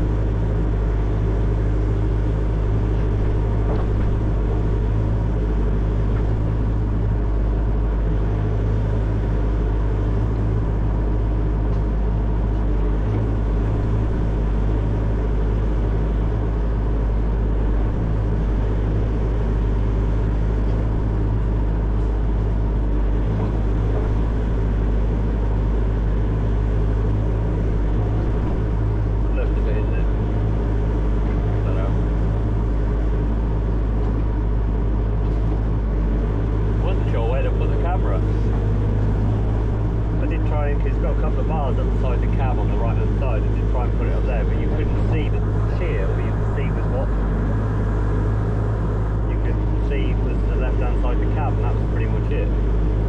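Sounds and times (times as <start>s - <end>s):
excavator diesel engine droning: 0.0s - 53.0s.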